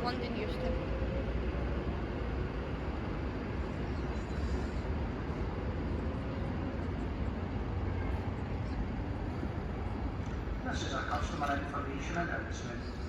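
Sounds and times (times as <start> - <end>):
electric train rumbling past: 0.0 - 13.0
faint train whine: 0.0 - 13.0.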